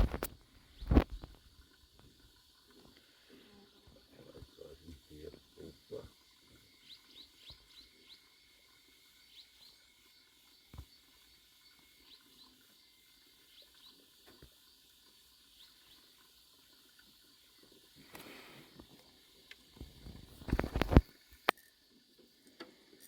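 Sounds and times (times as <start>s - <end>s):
insect hiss: 0.0s - 23.0s.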